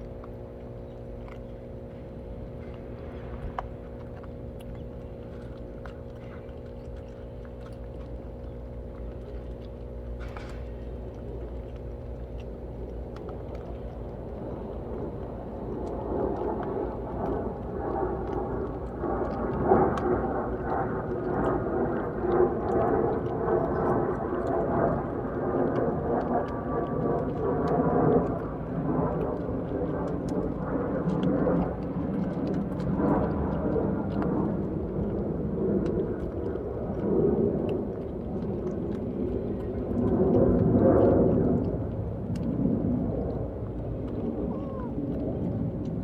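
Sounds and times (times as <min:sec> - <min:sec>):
cats chewing clicks: 0:00.0 - 0:46.0
cats purring rumble: 0:00.0 - 0:46.0.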